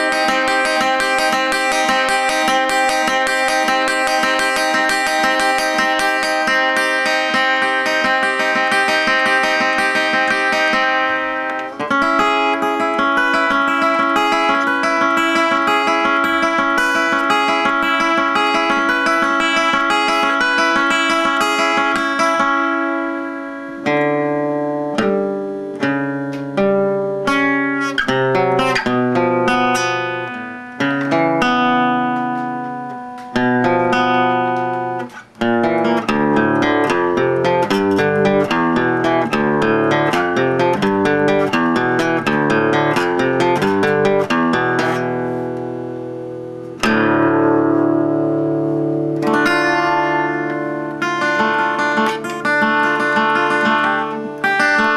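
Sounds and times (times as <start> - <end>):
solo guitar music: 0.0 - 54.9.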